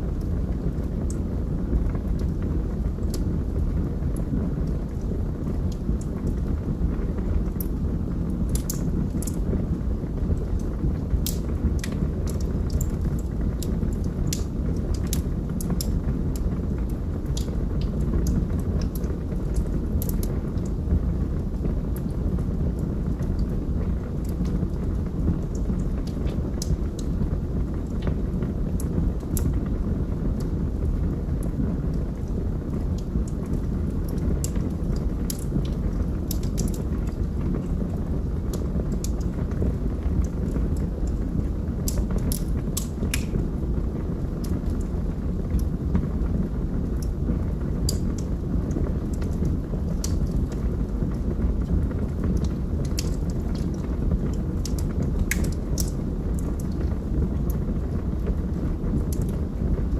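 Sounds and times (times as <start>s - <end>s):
flames rumbling: 0.0s - 59.9s
log fire crackling: 0.0s - 59.9s.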